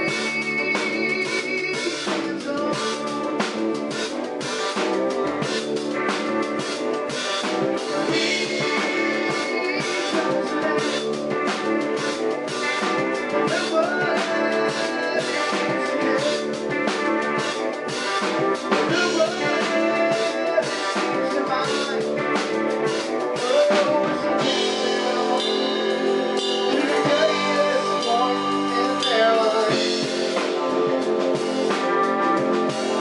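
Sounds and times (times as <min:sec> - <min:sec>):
drum kit with cymbals: 0:00.0 - 0:33.0
electric bass: 0:00.0 - 0:33.0
electric guitar: 0:00.0 - 0:33.0.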